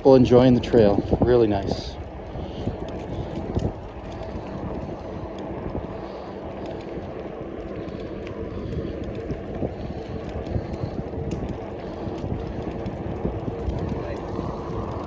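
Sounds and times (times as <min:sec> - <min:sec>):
tyres rumbling on pavement: 0:00.0 - 0:15.0
wind on microphone: 0:00.0 - 0:15.0
small clicks: 0:00.7 - 0:15.0.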